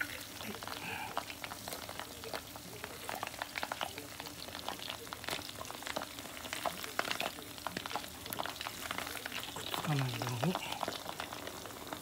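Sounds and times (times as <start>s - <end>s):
deep-frying sizzle with pops: 0.0s - 12.0s.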